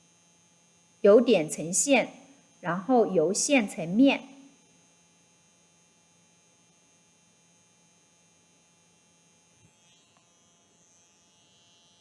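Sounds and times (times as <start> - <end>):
faint buzz of tattoo machine: 0.0 - 12.0.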